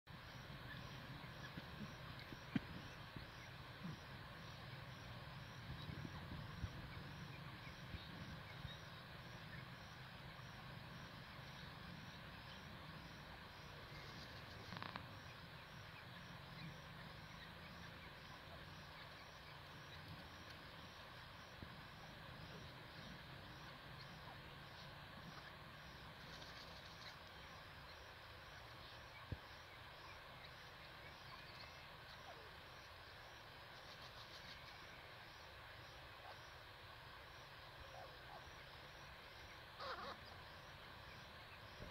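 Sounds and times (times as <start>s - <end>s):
faint outdoor hiss: 0.1s - 41.9s.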